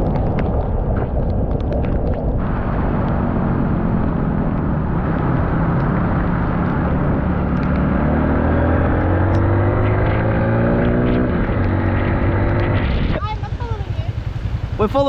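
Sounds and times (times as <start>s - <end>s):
dirt bike engine running: 0.0s - 15.0s
wind noise: 0.0s - 15.0s.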